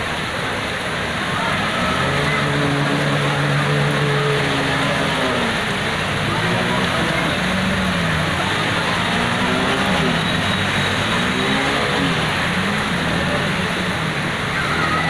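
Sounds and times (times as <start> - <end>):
floodwater rushing: 0.0 - 15.0
motorbike engines revving: 0.0 - 15.0.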